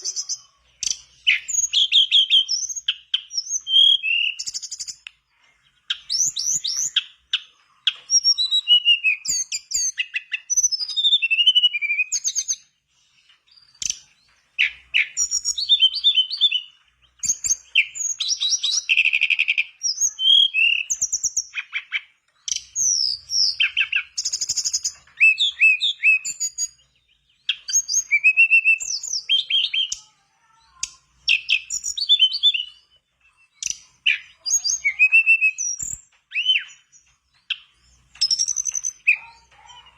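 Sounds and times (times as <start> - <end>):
bird singing whistles and trills: 0.0 - 5.1, 5.9 - 12.7, 13.5 - 30.0, 30.7 - 39.9.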